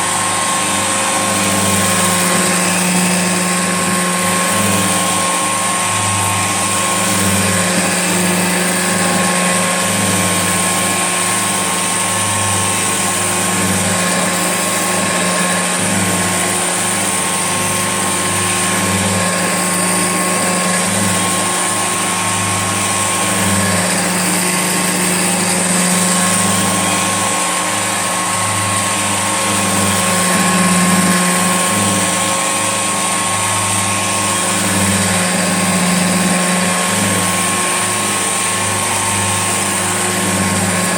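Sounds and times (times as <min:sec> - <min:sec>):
upright vacuum cleaner running: 0:00.0 - 0:40.9.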